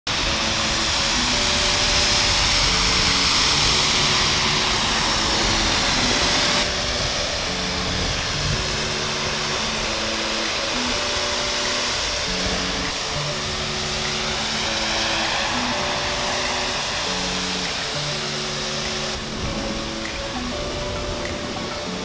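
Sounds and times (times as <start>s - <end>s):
pressure washer spraying water: 0.1s - 22.0s
synth background music: 0.1s - 22.0s.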